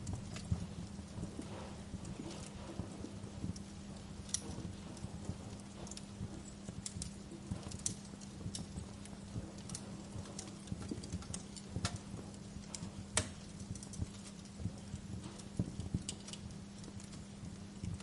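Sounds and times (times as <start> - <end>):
low steady hum: 0.0 - 18.0
wood fire crackling and popping: 0.0 - 18.0.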